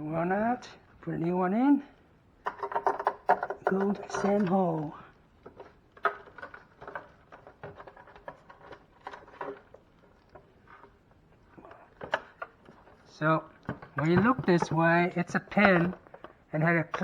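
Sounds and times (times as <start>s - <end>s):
ice maker being handled: 2.5s - 11.0s, 11.6s - 17.0s.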